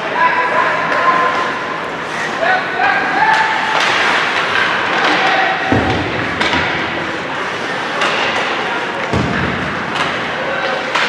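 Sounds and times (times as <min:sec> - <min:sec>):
crowd voices and calls: 0:00.0 - 0:11.0.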